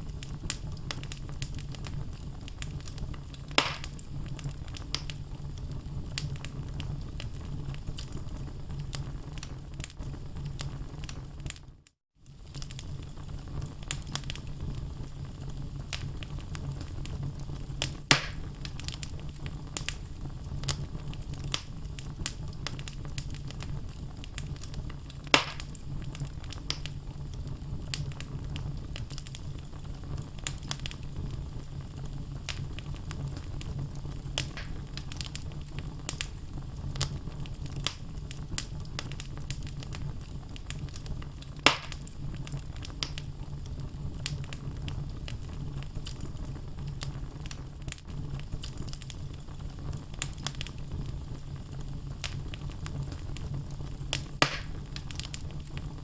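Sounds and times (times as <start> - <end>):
logs crackling and popping: 0.0 - 56.0
low rumble of flame: 0.0 - 56.0.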